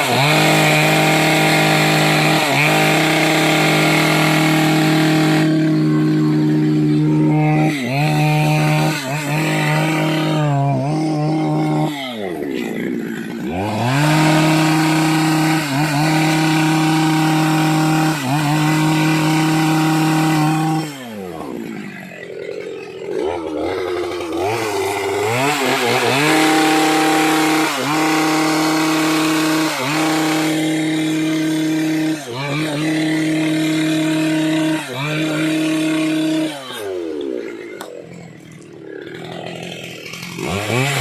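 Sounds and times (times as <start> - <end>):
chainsaw cutting wood: 0.0 - 41.0.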